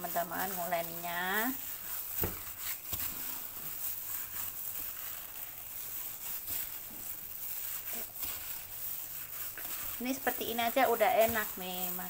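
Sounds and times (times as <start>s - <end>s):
hand squishing food mixture: 0.0s - 12.0s.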